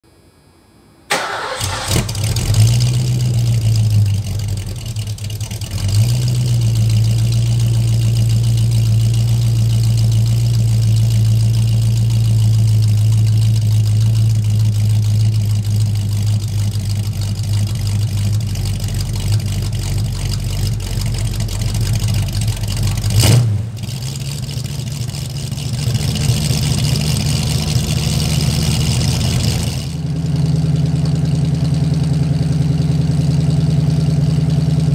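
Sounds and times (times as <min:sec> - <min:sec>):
car engine idling: 0:01.1 - 0:34.9.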